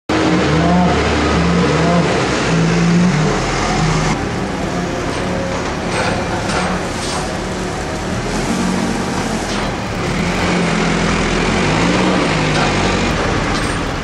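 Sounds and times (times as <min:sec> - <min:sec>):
diesel engine revving: 0:00.1 - 0:14.0
steady mechanical noise: 0:00.1 - 0:14.0.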